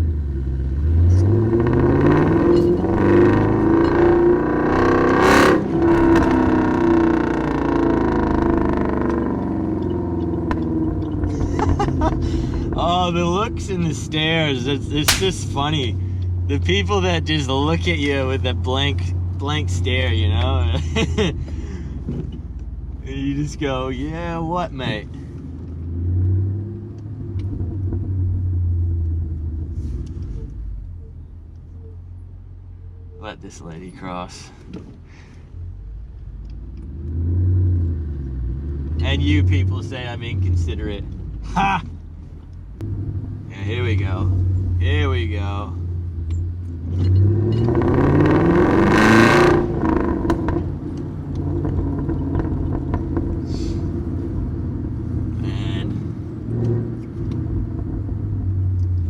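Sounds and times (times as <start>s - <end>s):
car exhaust rumbling deeply: 0.0s - 31.6s, 34.2s - 59.0s.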